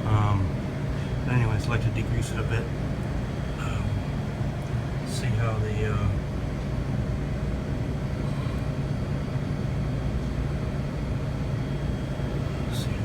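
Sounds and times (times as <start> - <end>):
fans and motors humming: 0.0 - 13.0.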